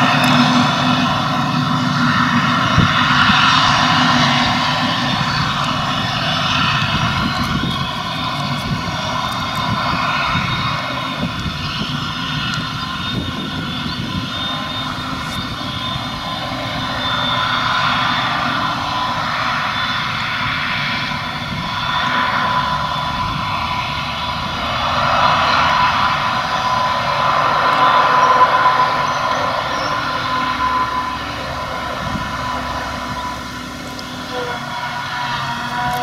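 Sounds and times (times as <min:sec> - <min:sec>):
forage harvester engine drone: 0:00.0 - 0:36.0
high mechanical whine: 0:00.0 - 0:36.0.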